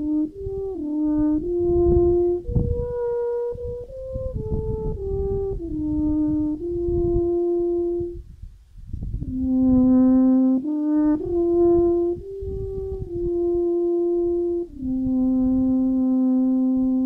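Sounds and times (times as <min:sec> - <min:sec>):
brass horn playing slow melody: 0:00.0 - 0:08.4, 0:09.2 - 0:17.0
wind rumble on microphone: 0:00.0 - 0:17.0.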